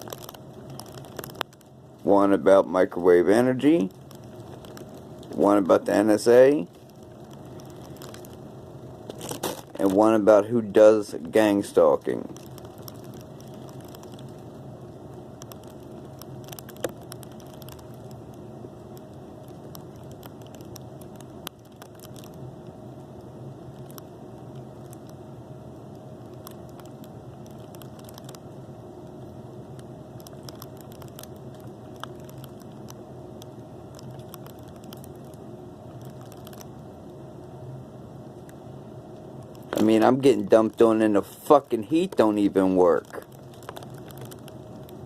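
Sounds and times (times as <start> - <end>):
crackling and popping clicks: 0.0 - 45.0
low room hum: 0.0 - 45.0.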